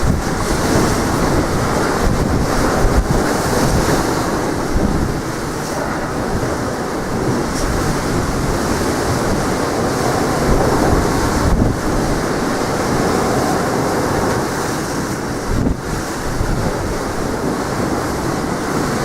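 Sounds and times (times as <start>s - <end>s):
sea waves on the shore: 0.0s - 19.0s
wind buffeting the microphone: 0.0s - 19.0s.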